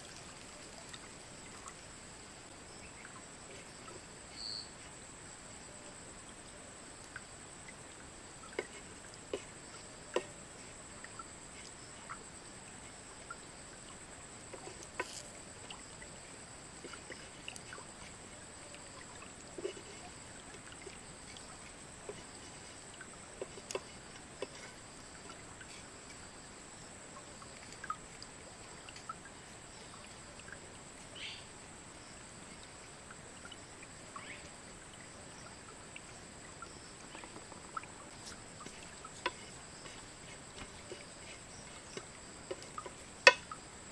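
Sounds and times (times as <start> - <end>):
insects trilling: 0.0 - 43.9.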